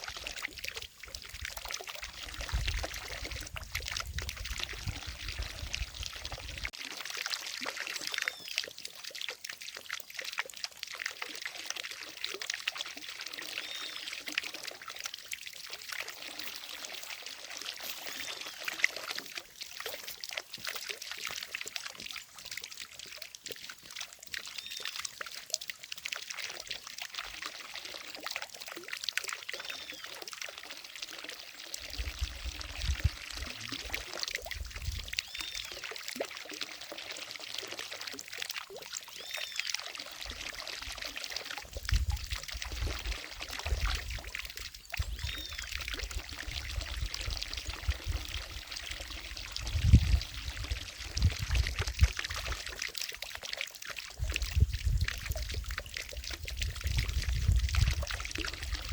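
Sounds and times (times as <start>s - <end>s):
fountain water splashing into lake: 0.0s - 58.9s.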